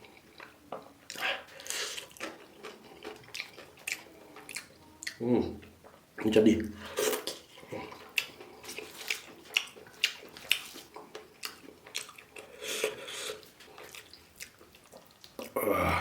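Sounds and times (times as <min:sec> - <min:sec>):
person chewing wetly: 0:00.0 - 0:15.7.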